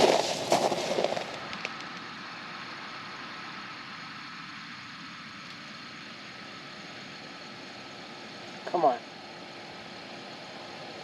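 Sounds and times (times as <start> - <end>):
faint mechanical hum with tones: 0.0 - 11.0.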